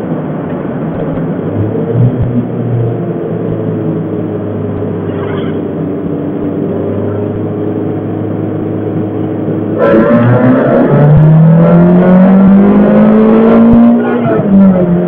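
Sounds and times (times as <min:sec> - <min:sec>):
car engine running steadily: 0:00.0 - 0:15.0.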